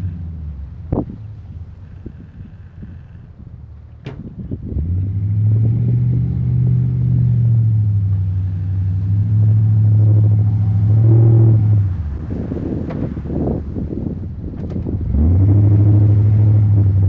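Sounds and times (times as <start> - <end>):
diesel truck engine: 0.0 - 17.0.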